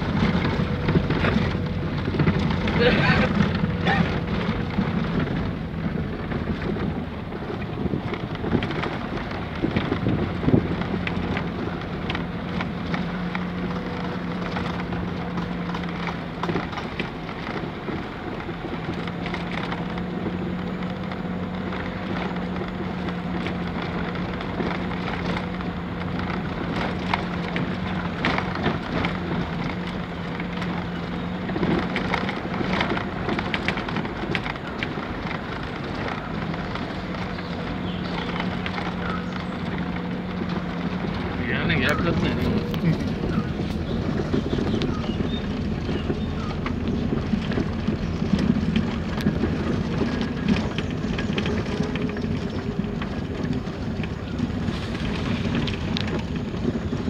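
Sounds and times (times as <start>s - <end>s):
car engine hum: 0.0s - 57.0s
clicks and rattles: 0.0s - 57.0s
tyre and road noise: 0.0s - 57.0s.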